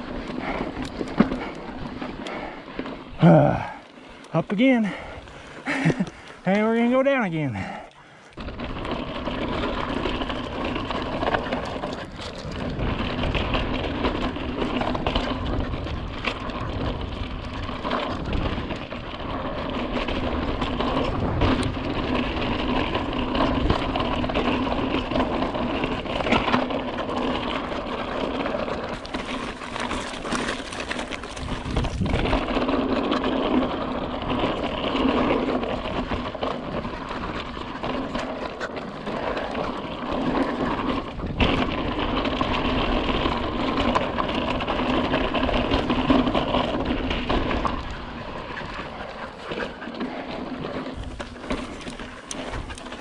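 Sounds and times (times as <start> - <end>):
bike rattling: 0.0 - 53.0
bike tyres rumbling on rock: 0.0 - 53.0.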